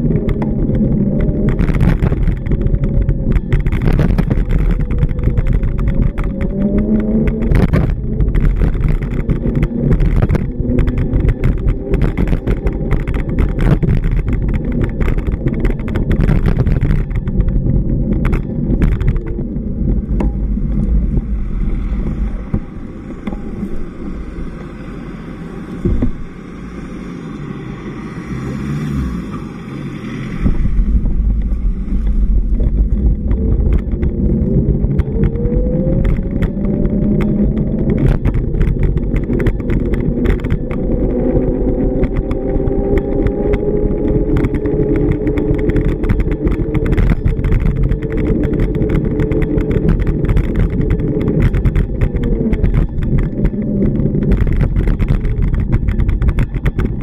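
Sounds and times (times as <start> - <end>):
cars passing with low rumble: 0.0 - 57.0.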